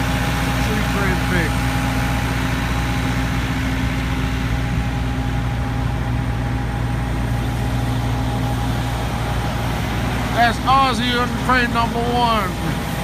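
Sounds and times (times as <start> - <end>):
diesel engine humming: 0.0 - 13.0
faint steady whine: 0.0 - 13.0.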